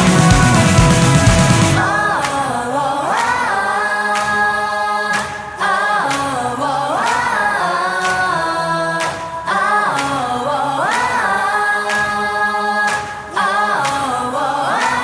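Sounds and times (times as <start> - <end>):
pop music with layered singing: 0.0 - 15.0.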